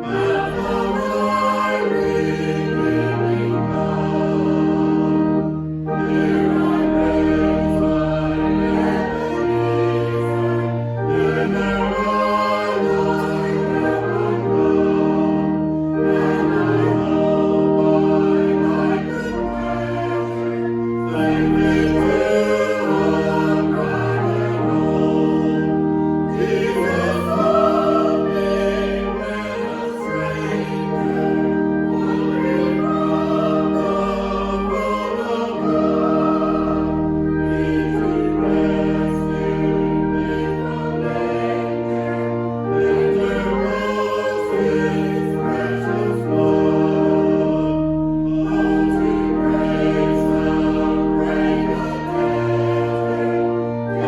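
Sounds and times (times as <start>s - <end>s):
choir singing a hymn: 0.0s - 54.0s
sustained keyboard chords: 0.0s - 54.0s.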